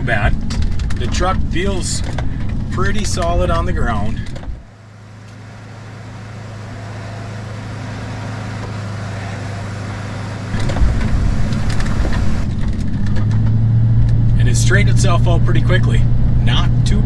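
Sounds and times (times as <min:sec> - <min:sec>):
rough rumble with knocks: 0:00.0 - 0:05.5, 0:06.2 - 0:16.8
truck road noise drone: 0:00.0 - 0:17.0.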